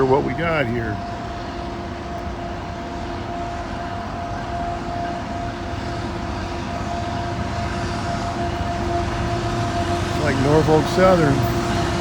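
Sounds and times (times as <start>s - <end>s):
locomotive rumble: 0.0s - 12.0s
locomotive whine: 0.0s - 12.0s.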